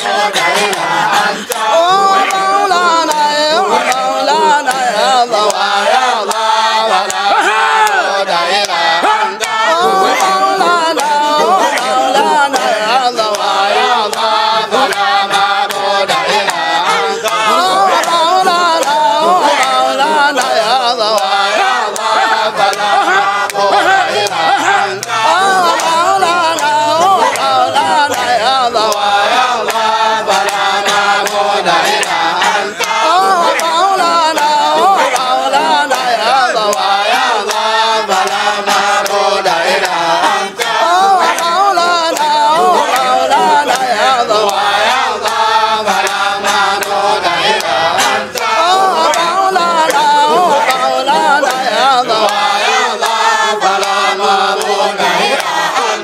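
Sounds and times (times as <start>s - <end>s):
men chanting: 0.0s - 56.0s
men singing into microphones: 0.0s - 56.0s.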